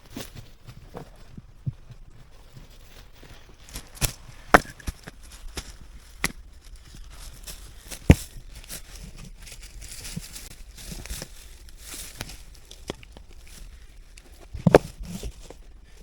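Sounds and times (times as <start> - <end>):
crunching: 0.0 - 16.0
rustling: 0.0 - 16.0.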